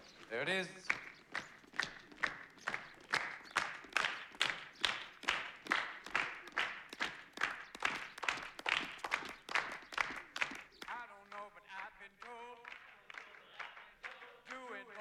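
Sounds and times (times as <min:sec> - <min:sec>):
people clapping in unison: 0:00.0 - 0:15.0.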